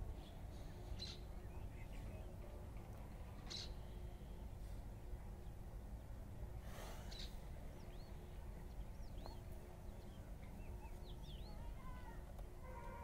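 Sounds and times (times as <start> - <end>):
small birds chirping: 0.2 - 2.4, 3.4 - 12.2.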